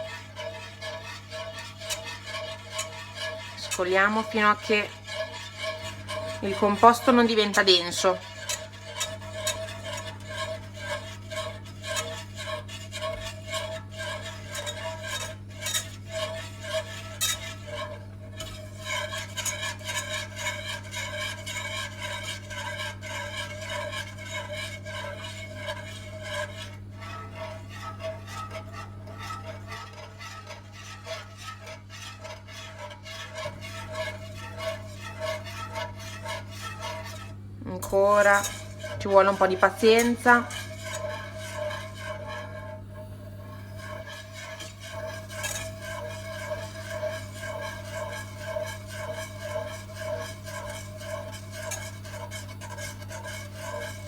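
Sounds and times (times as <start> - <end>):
whisk scraping in a pan: 0.0 - 54.0
steady low hum: 0.4 - 29.6, 33.4 - 54.0.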